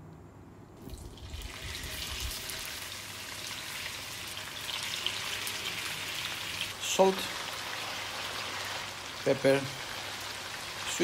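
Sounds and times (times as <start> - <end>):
meat sizzling in frying pan: 1.2 - 11.0.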